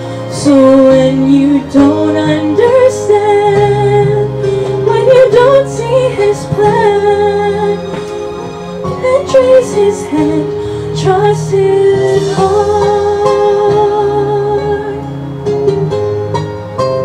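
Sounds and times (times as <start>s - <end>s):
woman singing worship song: 0.0s - 8.2s, 8.8s - 15.3s
instrumental accompaniment: 0.0s - 17.0s.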